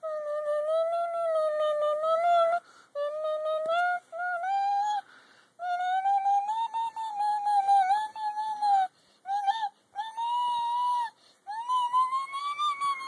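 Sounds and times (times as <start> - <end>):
boy singing long held notes: 0.0 - 13.0.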